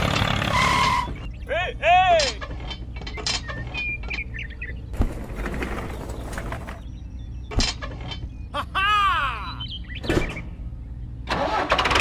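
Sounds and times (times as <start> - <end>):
steady low hum: 1.1 - 11.3.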